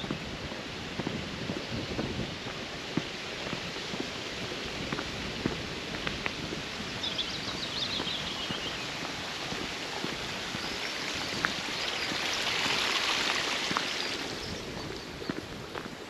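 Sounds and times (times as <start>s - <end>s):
footsteps on gravel: 0.0s - 16.0s
stream rushing: 0.0s - 16.0s.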